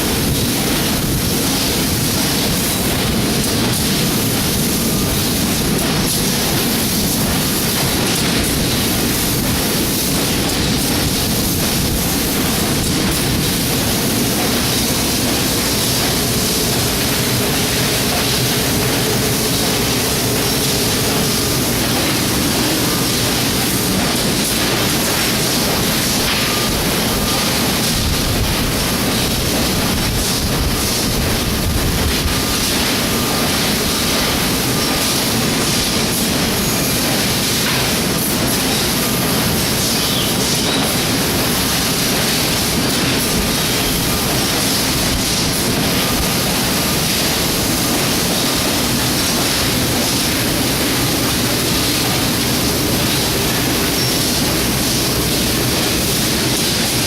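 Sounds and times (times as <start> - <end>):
laser cutter machine noise: 0.0 - 57.0.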